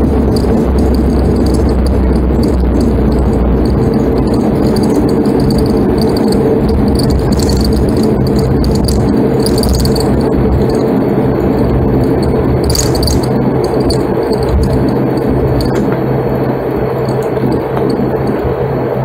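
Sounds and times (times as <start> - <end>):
cabin rattles and clicks: 0.0 - 16.0
low hum: 0.0 - 19.0
turboprop engines droning: 0.0 - 19.0.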